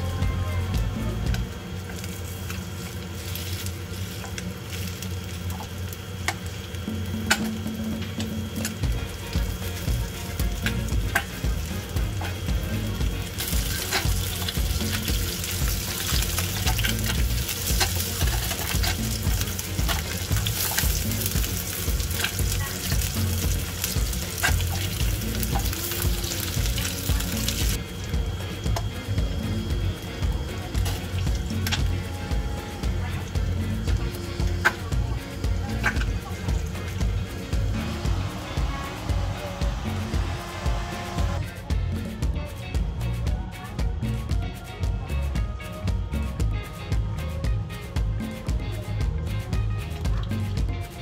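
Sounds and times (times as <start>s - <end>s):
patties sizzling in oil: 0.0s - 43.1s.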